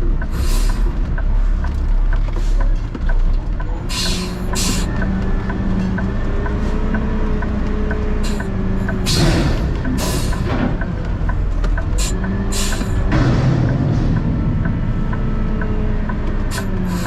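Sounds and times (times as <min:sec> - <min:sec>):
faint steady ticking: 0:00.0 - 0:17.0
truck engine rumbling: 0:00.0 - 0:17.0.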